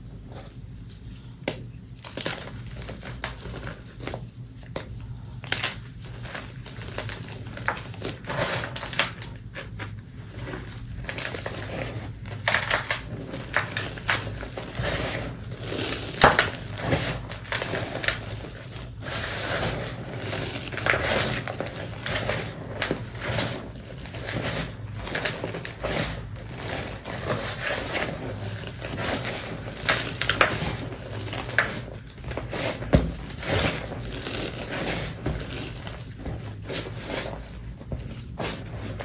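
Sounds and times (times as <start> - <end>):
chalk crunching by hand: 0.3 - 39.0.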